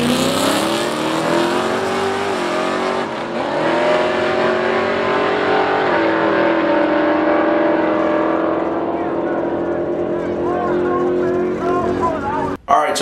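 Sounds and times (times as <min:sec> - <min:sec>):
car engines at full throttle: 0:00.0 - 0:12.6.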